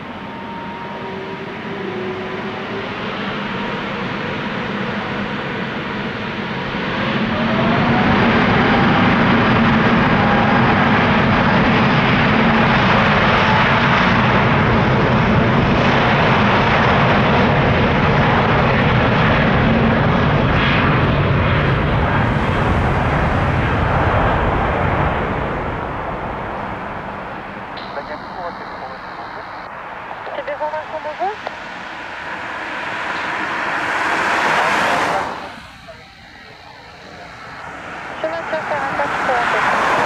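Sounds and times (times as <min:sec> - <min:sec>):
engines whining: 0:00.0 - 0:40.0
jet engines at high thrust: 0:00.0 - 0:40.0.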